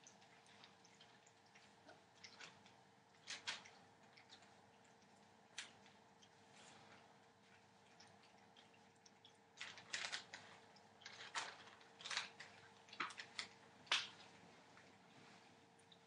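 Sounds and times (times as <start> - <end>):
puppies clicking and rustling: 0.0 - 15.0
faint steady hum: 0.0 - 16.0.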